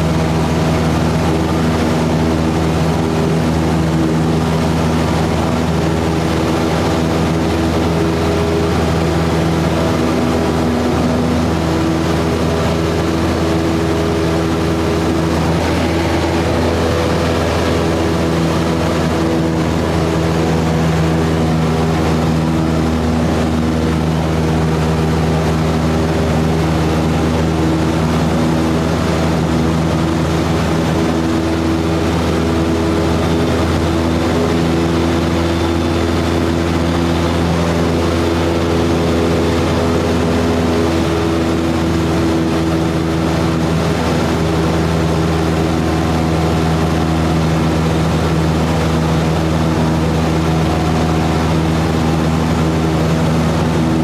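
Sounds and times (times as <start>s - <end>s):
airplane engine and propeller drone: 0.0s - 54.0s.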